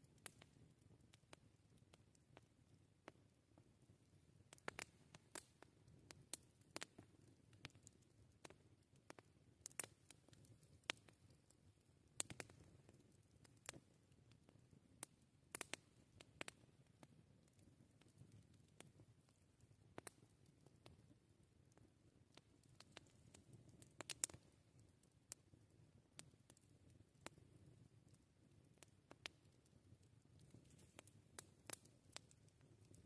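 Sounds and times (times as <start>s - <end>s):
faint low rumble of fire: 0.0s - 33.0s
wood fire crackling: 0.0s - 33.0s.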